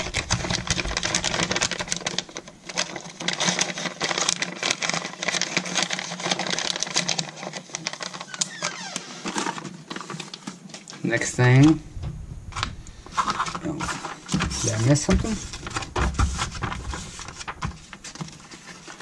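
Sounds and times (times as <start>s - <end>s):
packaging and papers crackling: 0.0s - 11.8s, 12.5s - 19.0s.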